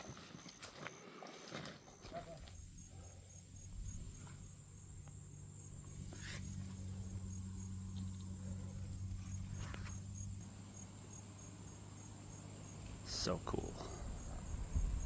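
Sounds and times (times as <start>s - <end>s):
insects trilling: 0.0s - 15.0s
pulsing insect chirp: 0.0s - 15.0s
low steady hum: 2.1s - 15.0s.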